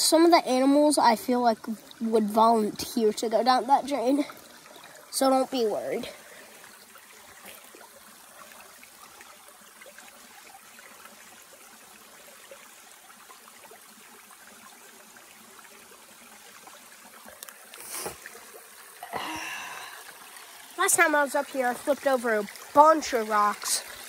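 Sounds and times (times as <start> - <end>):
trickle of running water: 0.0 - 24.0.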